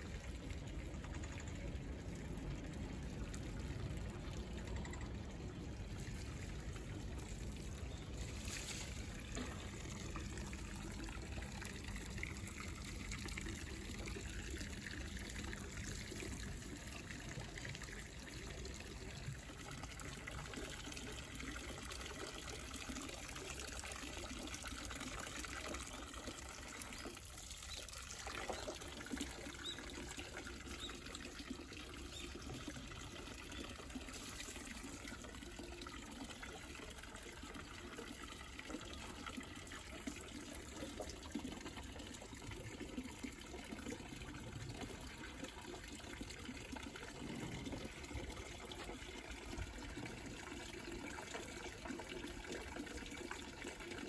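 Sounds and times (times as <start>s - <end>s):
water trickling into tub: 0.0s - 54.0s.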